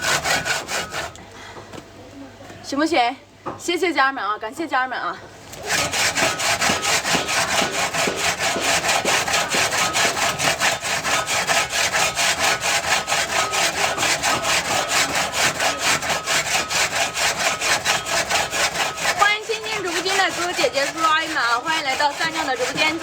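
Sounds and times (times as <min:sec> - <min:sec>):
rhythmic rasping scraping: 0:00.0 - 0:01.3, 0:05.5 - 0:23.0.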